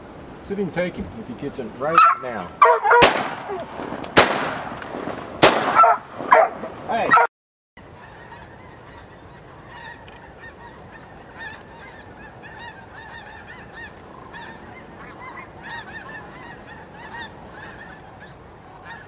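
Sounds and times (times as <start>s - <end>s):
geese honking: 1.4s - 3.7s, 5.6s - 19.0s.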